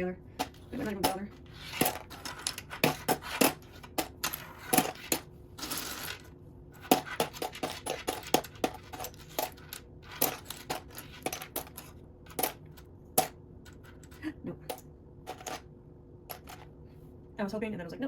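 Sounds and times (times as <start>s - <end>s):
plastic bricks clicking and clattering: 0.4s - 15.6s.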